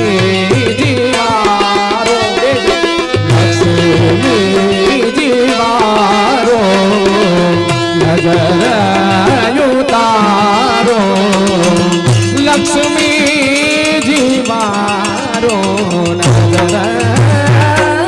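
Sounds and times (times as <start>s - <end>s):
drum accompaniment: 0.0s - 18.0s
held instrumental notes: 0.0s - 18.0s
person singing ornamented melody: 0.0s - 18.0s.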